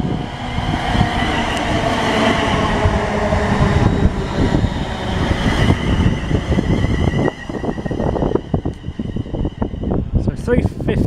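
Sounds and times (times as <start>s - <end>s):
train traction motors whining: 0.0s - 10.2s
wheels rumbling on rail: 0.0s - 11.0s.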